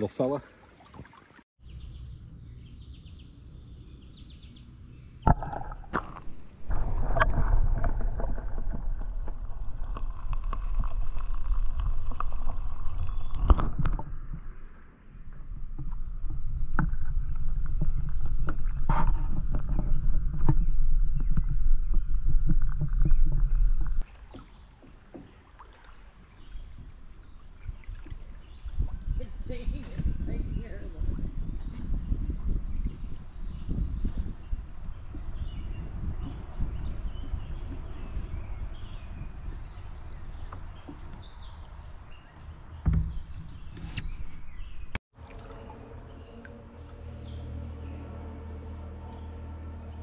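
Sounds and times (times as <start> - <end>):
kayak hull rumbling: 0.0 - 50.0.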